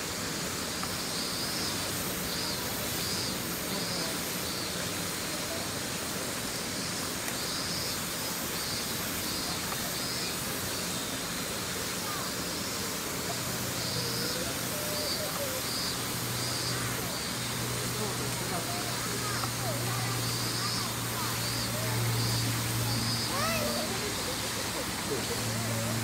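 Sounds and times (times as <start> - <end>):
even outdoor hiss: 0.0 - 26.0.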